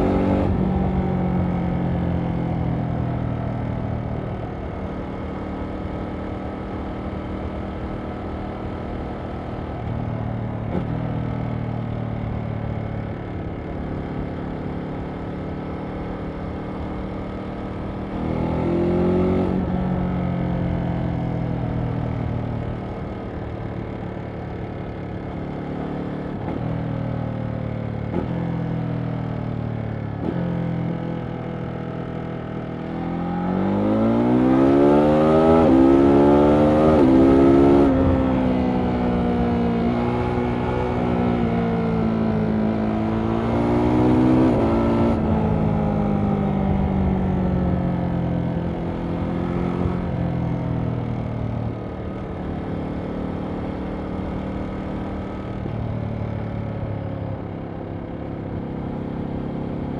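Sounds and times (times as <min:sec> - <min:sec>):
motorcycle engine cruising and revving: 0:00.0 - 0:59.9.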